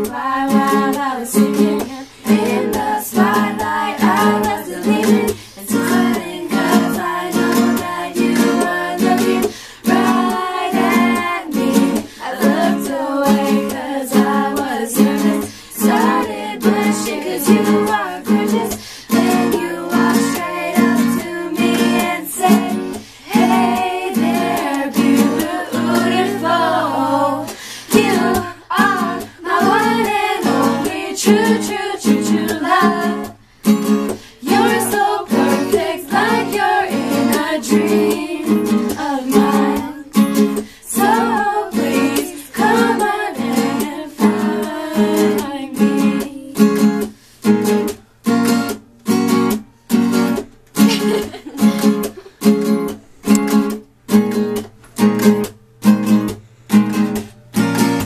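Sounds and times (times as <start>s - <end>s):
girls singing together: 0.0s - 47.2s
strummed acoustic guitar: 0.0s - 58.0s.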